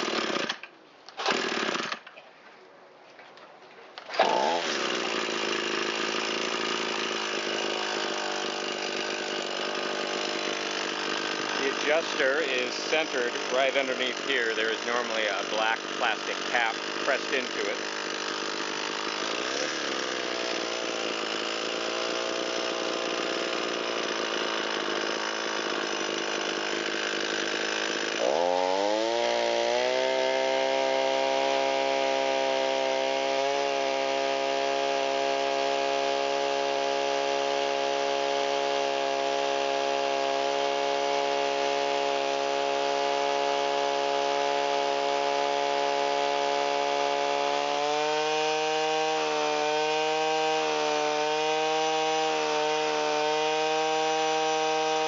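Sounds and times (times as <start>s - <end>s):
string trimmer engine screaming: 0.0s - 0.6s, 1.2s - 2.1s, 4.0s - 55.0s.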